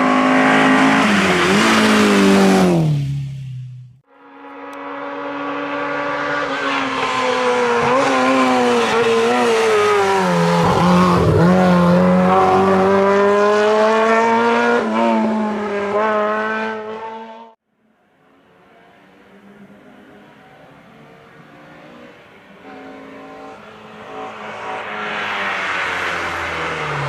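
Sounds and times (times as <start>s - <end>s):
rally car engine revving high: 0.0s - 3.4s, 4.5s - 17.6s, 19.6s - 27.0s.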